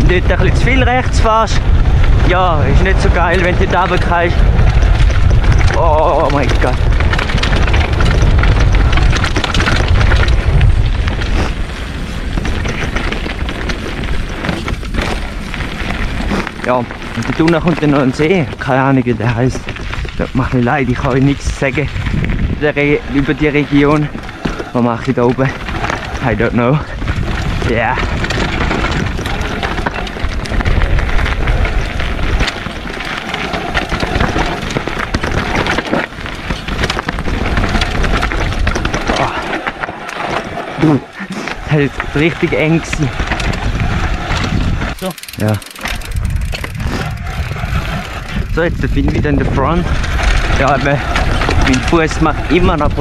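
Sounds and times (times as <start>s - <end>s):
bike rattling over rough trail: 0.0s - 53.0s
wind buffeting microphone: 0.0s - 53.0s.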